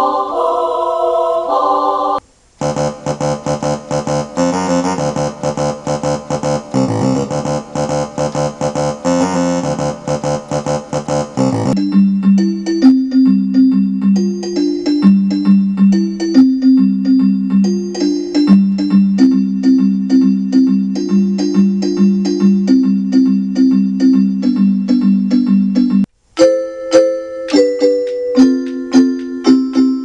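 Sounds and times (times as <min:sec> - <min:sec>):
electric piano keyboard playing: 0:02.6 - 0:30.0.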